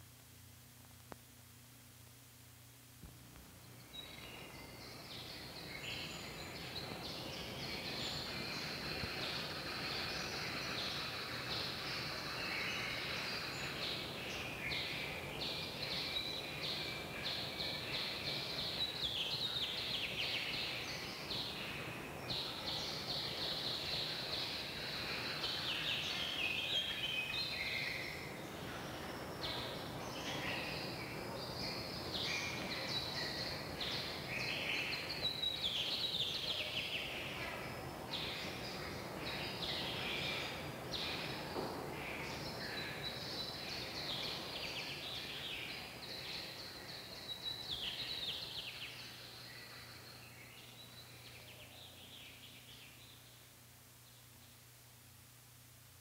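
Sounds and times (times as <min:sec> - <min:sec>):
soundtrack hiss: 0:00.0 - 0:56.0
small birds chirping: 0:03.4 - 0:54.7.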